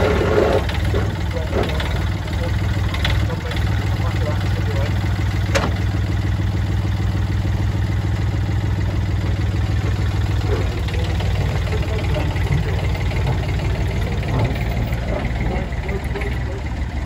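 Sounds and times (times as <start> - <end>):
mini dumper engine running: 0.0 - 17.0.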